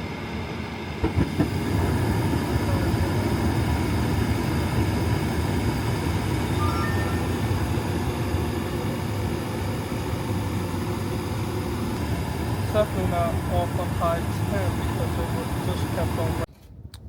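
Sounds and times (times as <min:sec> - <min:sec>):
air handler blower running: 0:00.0 - 0:06.6, 0:07.2 - 0:16.5.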